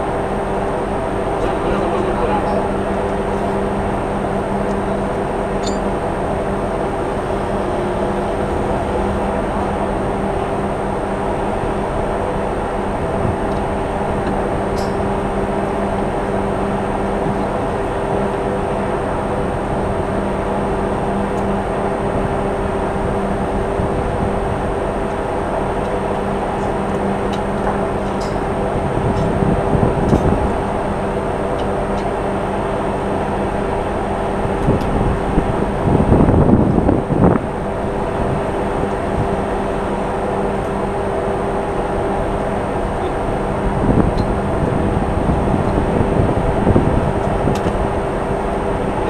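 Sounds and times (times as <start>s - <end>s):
ship machinery droning: 0.0s - 49.0s.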